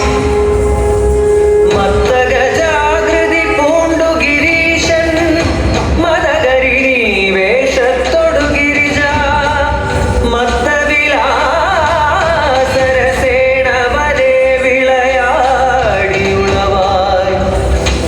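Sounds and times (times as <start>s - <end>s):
dance music with singing: 0.0s - 18.0s.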